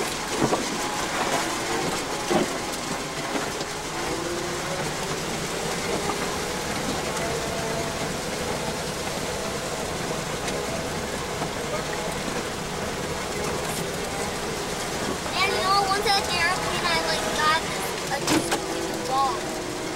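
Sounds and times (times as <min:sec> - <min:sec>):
vehicle engine running at crawl: 0:00.0 - 0:19.9.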